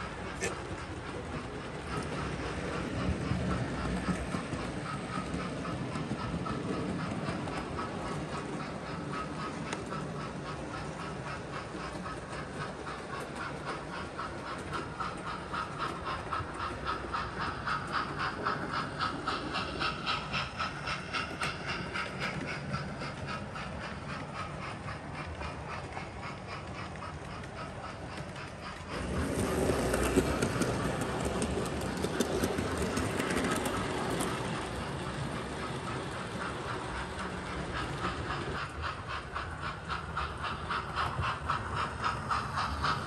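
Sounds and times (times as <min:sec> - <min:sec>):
model steam locomotive chuffing: 0:00.0 - 0:43.0
rushing hiss: 0:00.0 - 0:43.0.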